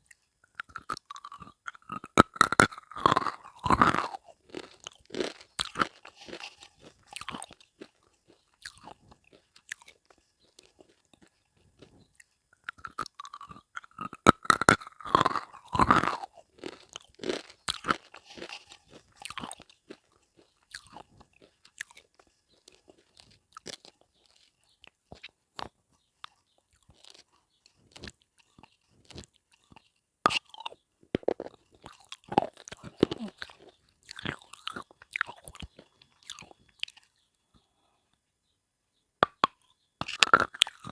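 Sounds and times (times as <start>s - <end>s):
chewing hard brittle pieces: 0.0s - 37.2s, 39.2s - 40.9s.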